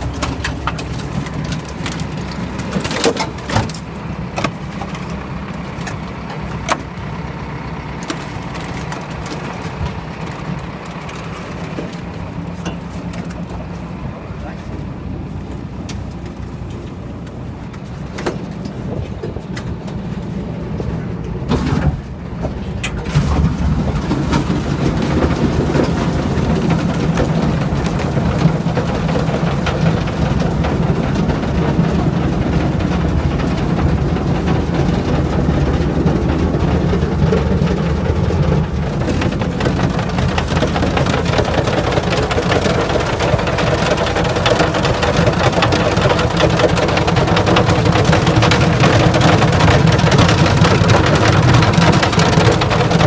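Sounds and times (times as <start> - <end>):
mixer rattle and clatter: 0.0 - 53.0
tractor engine drone: 0.0 - 53.0.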